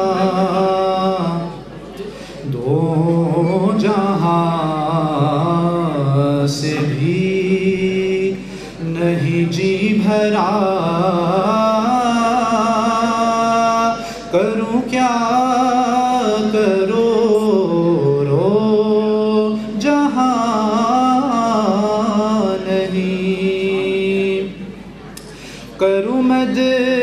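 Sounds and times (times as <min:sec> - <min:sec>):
man reciting devotional poem: 0:00.0 - 0:27.0.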